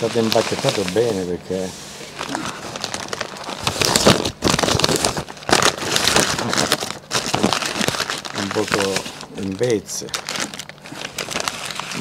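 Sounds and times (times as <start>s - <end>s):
wrapping paper crumpling and tearing: 0.0s - 12.0s.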